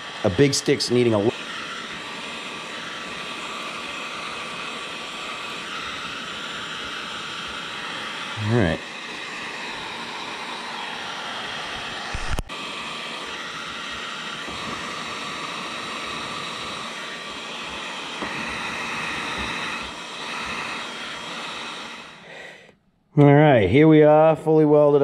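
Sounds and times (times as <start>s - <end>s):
heat gun fan blowing: 0.0s - 22.8s.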